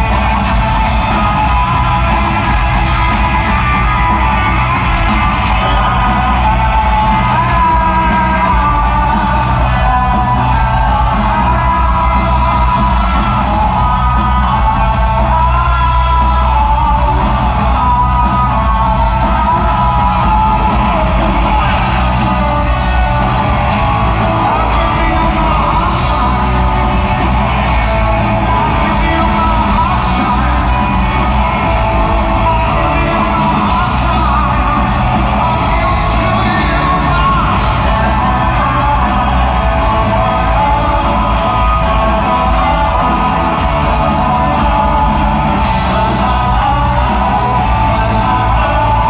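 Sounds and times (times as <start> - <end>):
live rock band playing: 0.0 - 49.0
man singing lead vocals: 0.0 - 49.0.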